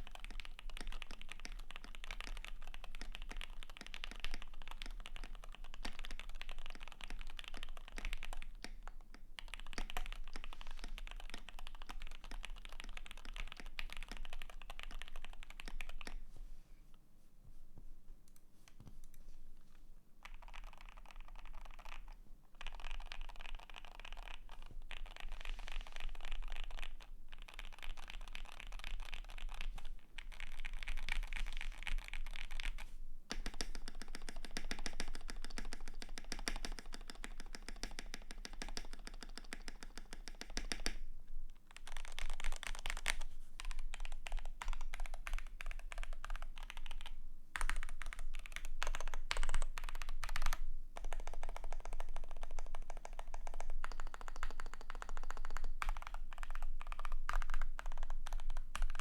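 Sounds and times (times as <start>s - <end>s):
mechanical keyboard typing: 0.0s - 16.2s, 20.2s - 41.0s, 41.7s - 59.0s.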